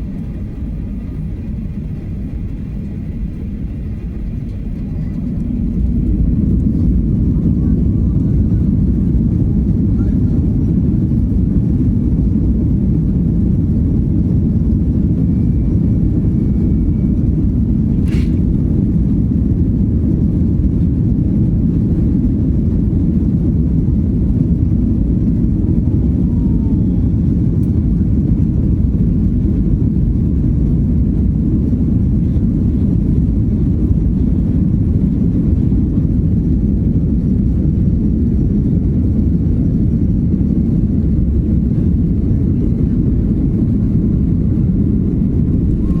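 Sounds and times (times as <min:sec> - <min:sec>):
airplane engine rumble in cabin: 0:00.0 - 0:46.0.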